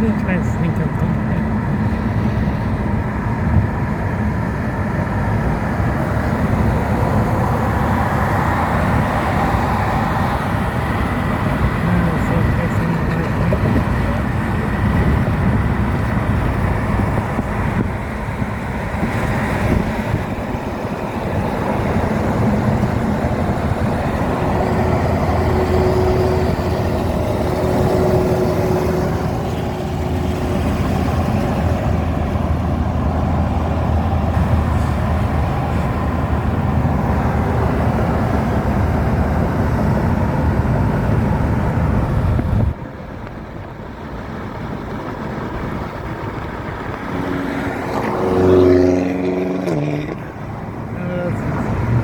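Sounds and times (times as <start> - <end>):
freeway traffic: 0.0 - 52.0
light rail train rumbling: 0.0 - 52.0.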